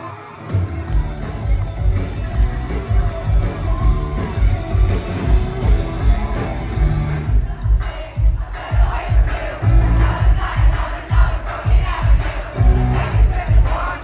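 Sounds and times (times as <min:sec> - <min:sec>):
live pop-rock band: 0:00.0 - 0:14.0.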